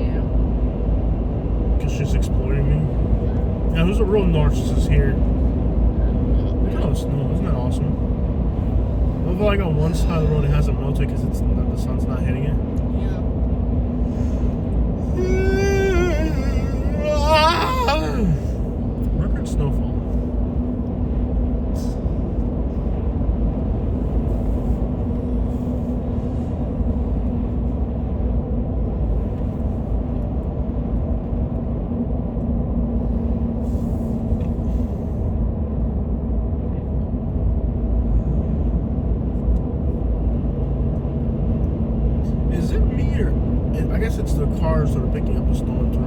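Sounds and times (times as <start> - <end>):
car road rumble and engine hum: 0.0 - 46.0.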